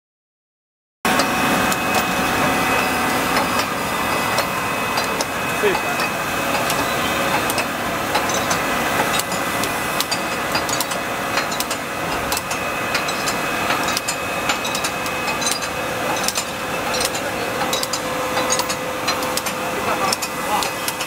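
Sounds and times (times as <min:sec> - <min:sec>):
machine hum and whine: 0:01.1 - 0:21.0
glass bottles clinking: 0:02.0 - 0:21.0.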